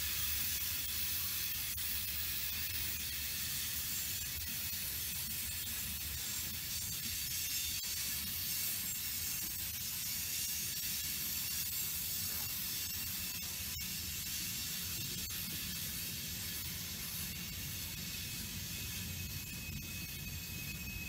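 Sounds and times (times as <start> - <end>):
broad hiss: 0.0 - 19.9.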